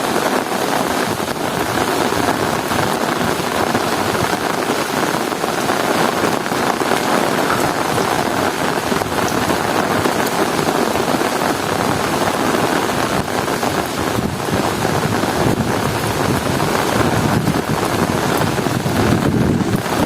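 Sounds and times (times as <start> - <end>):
heavy rain: 0.0 - 20.0
strong wind rumble: 0.0 - 20.0.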